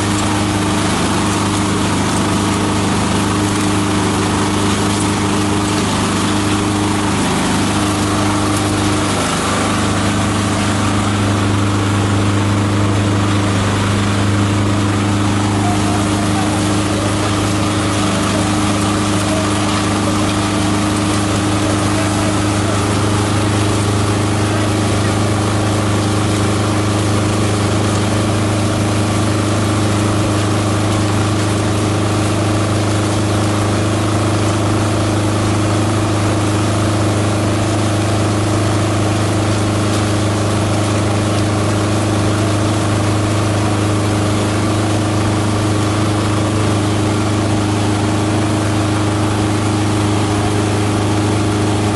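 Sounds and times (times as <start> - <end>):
shredder motor humming: 0.0 - 51.9.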